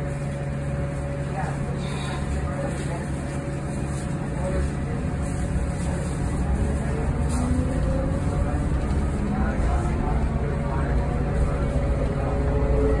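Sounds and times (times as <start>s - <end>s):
bus road and tyre rumble: 0.0s - 13.0s.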